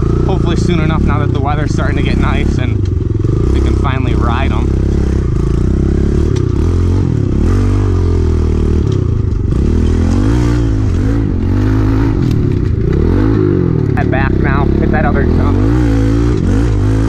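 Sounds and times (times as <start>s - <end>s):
bike knocking and rattling: 0.0s - 14.0s
small motorbike engine revving: 0.0s - 17.0s.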